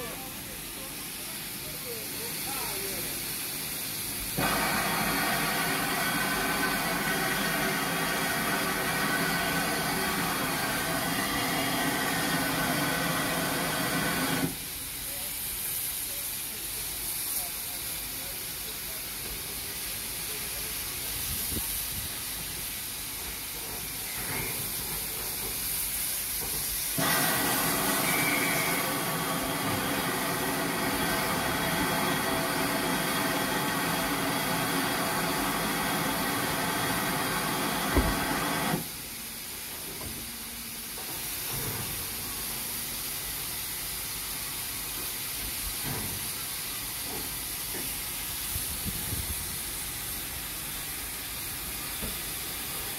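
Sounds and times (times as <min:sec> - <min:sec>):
loud rush of steam with tone: 0:00.0 - 0:52.9
steam hissing from locomotive: 0:00.0 - 0:52.9.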